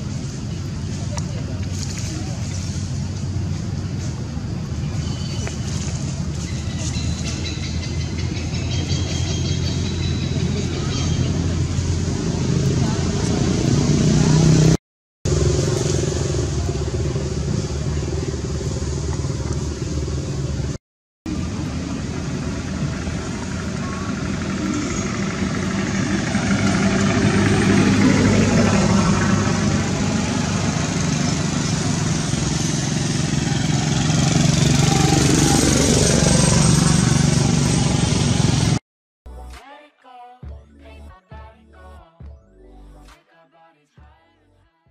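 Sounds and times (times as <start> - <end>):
vehicle engine running: 0.0 - 38.8.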